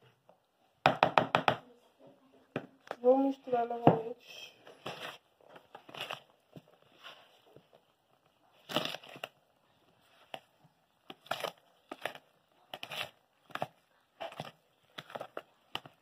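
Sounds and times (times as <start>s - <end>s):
spatula stirring batter: 2.8s - 16.0s.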